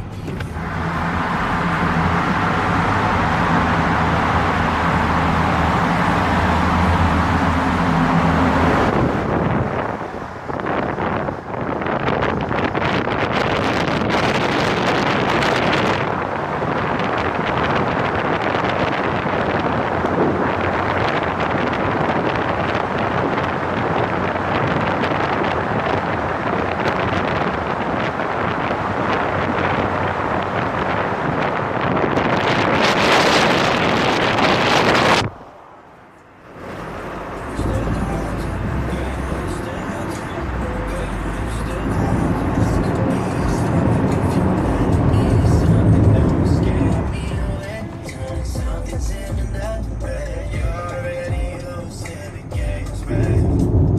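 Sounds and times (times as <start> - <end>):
car tyre and engine noise: 0.0 - 53.9
low engine hum: 0.0 - 53.9
wind buffeting microphone: 1.5 - 49.7, 50.6 - 53.9.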